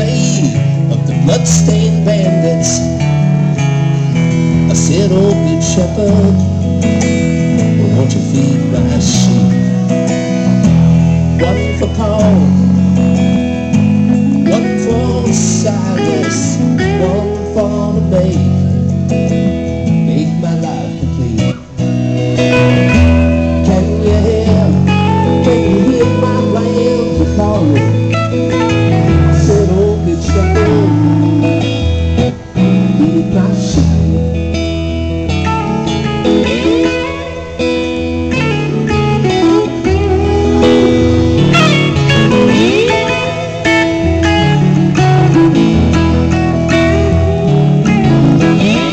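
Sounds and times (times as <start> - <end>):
bass line: 0.0 - 48.9
lead electric guitar: 0.0 - 48.9
rhythm guitar: 0.0 - 48.9.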